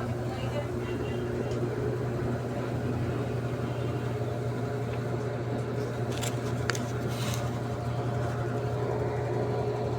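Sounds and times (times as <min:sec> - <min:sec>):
washing machine motor hum: 0:00.0 - 0:09.9.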